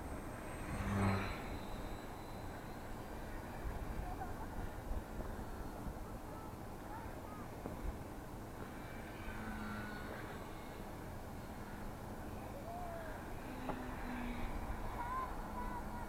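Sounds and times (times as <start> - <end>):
faint distant voices: 0.0 - 16.0.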